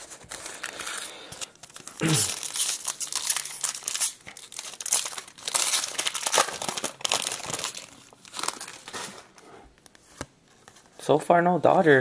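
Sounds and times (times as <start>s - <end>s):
plastic wrapper crinkling: 0.0s - 10.9s.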